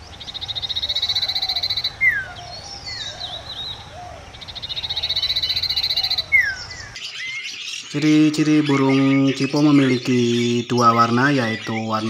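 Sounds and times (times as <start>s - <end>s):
bird singing rattling trill: 0.0s - 12.0s.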